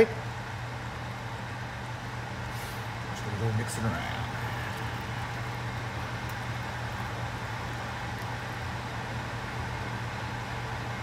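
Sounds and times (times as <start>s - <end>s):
steady background hum and hiss: 0.0s - 11.0s.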